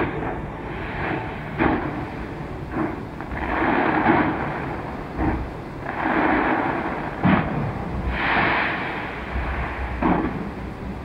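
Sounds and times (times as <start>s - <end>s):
fireworks bursting: 0.0s - 10.7s.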